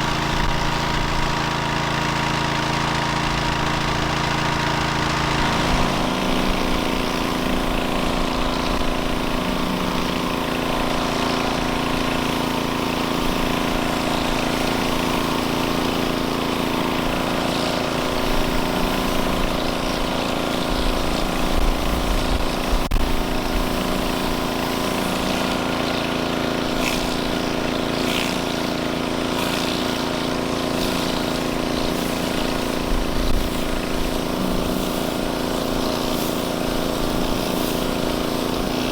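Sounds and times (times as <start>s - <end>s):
small engine running under load: 0.0s - 38.9s.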